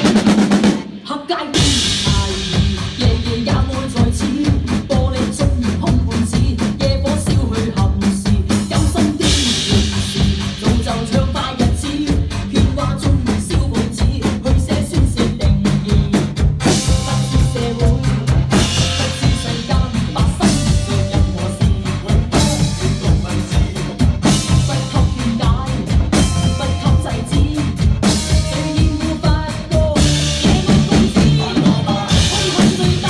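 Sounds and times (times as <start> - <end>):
bass line: 0.0 - 33.0
drum kit kick and snare beat: 0.0 - 33.0
pop backing track: 0.0 - 33.0.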